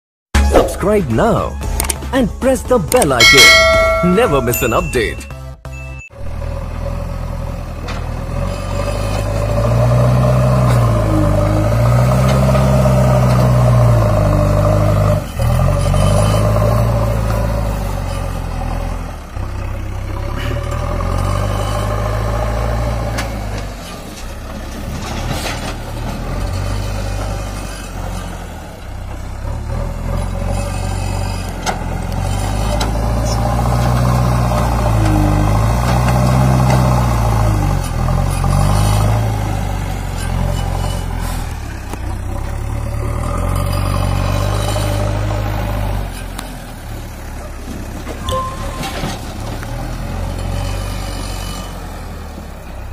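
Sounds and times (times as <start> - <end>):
diesel engine working under load: 3.2 - 52.9.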